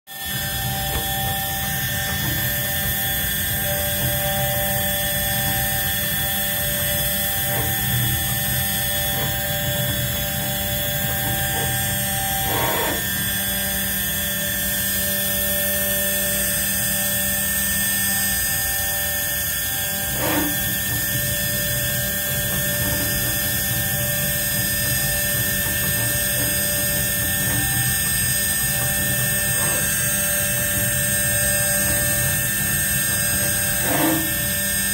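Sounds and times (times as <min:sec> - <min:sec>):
engraving machine spindle whine: 0:00.1 - 0:34.9.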